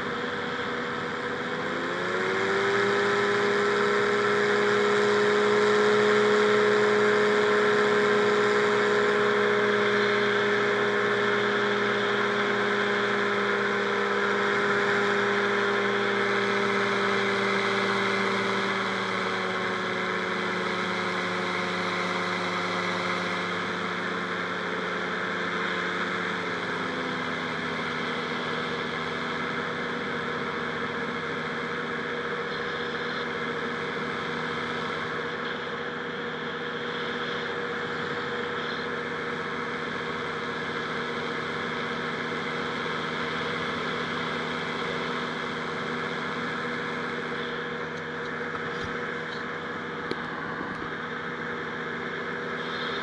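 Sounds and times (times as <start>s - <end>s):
two-stroke engine with propeller: 0.0s - 53.0s.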